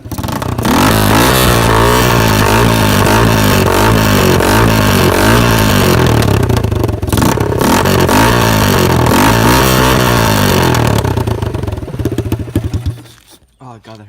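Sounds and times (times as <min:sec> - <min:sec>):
loud engine revving: 0:00.0 - 0:13.2.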